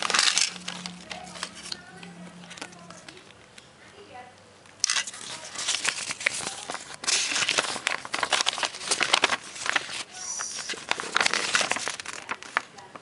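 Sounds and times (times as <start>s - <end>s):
packaging crinkling and rustling: 0.0s - 3.6s, 4.8s - 13.0s.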